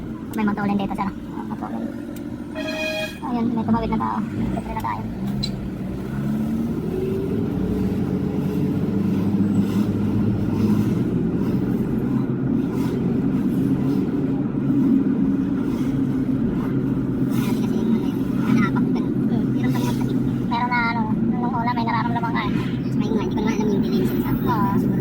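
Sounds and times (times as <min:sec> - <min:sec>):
truck engine droning from inside: 0:00.0 - 0:25.0.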